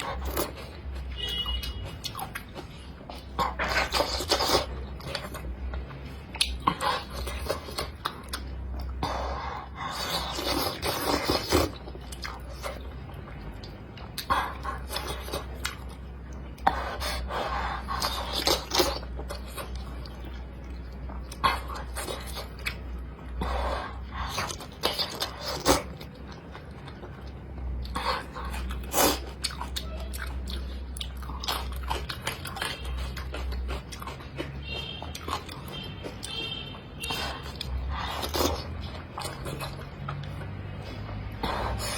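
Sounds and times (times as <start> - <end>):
person chewing and crunching: 0.0 - 41.9.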